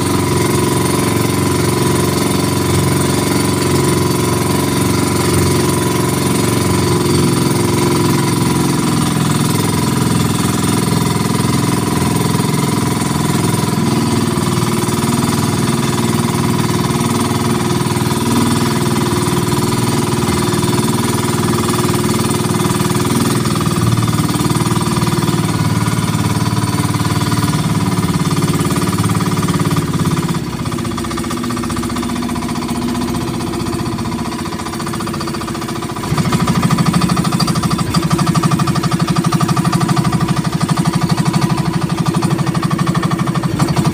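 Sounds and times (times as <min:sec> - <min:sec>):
boat engine chugging: 0:00.0 - 0:43.9.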